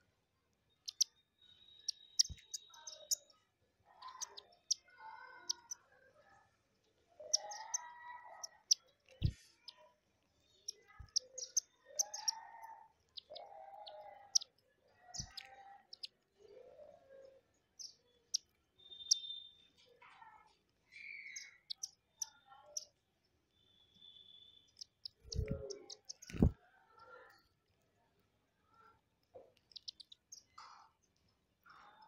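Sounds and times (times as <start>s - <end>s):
birds chirping high: 0.0s - 27.8s, 28.6s - 32.0s.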